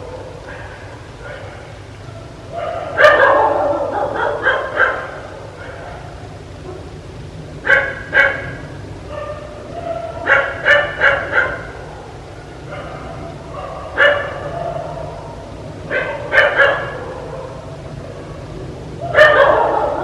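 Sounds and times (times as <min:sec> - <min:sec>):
dog barking: 0:00.0 - 0:07.0, 0:07.6 - 0:20.0.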